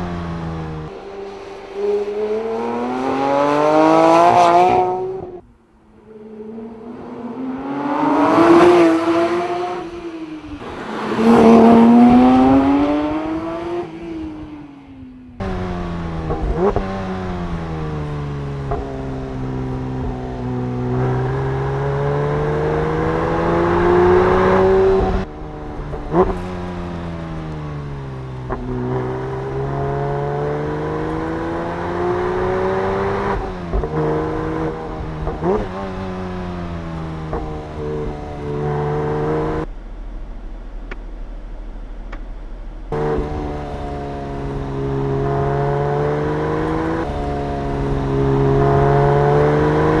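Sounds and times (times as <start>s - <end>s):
sharp engine rev blips: 0.0s - 39.7s, 42.9s - 50.0s
sports car engine revving: 0.0s - 50.0s.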